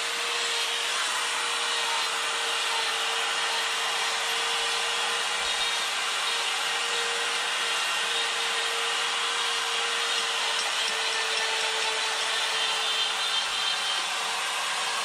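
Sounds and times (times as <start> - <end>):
die grinder whining on wood: 0.0 - 15.0.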